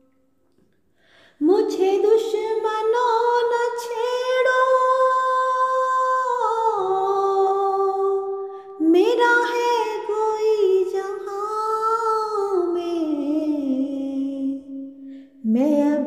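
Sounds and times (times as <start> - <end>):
woman singing unaccompanied: 1.4 - 16.0.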